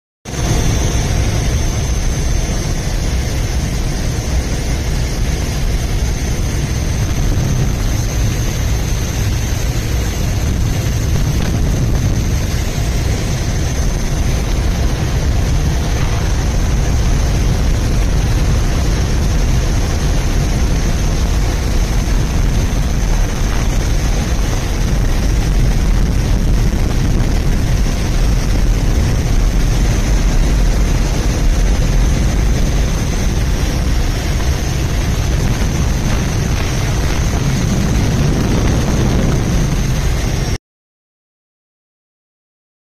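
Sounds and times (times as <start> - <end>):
aircraft engines rumbling: 0.3 - 40.6
thin high whine: 0.3 - 40.6.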